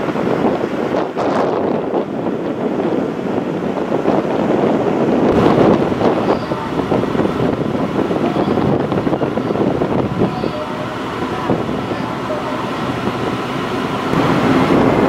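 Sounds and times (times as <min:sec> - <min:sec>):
ship running noise: 0:00.0 - 0:15.0
wind buffeting microphone: 0:00.0 - 0:15.0.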